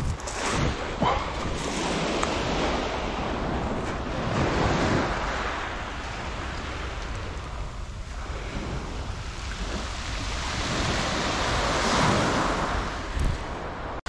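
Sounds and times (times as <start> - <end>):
waves washing over shingle: 0.0 - 14.0
wind on microphone: 0.0 - 14.0.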